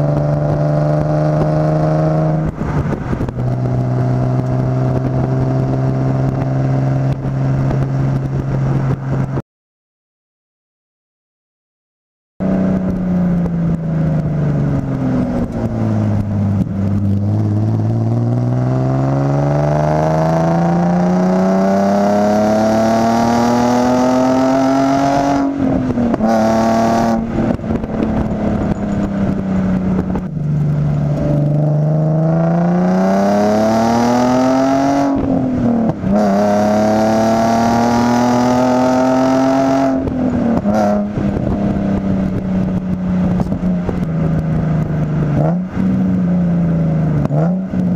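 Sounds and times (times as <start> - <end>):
car engine exhaust accelerating: 0.0 - 9.4, 12.4 - 47.9.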